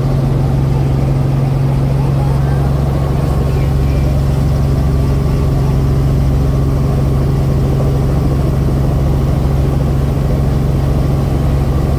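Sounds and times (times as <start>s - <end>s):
helicopter engine and rotor drone: 0.0s - 11.9s.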